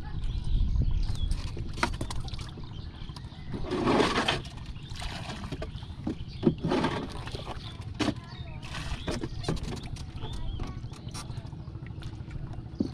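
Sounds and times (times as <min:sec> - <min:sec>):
water splashing and trickling: 0:01.3 - 0:12.9.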